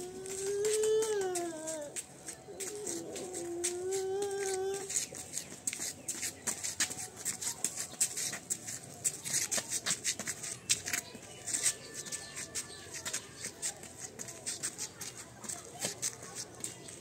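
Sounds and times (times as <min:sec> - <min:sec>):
footsteps scuffing on concrete: 0:00.0 - 0:17.0.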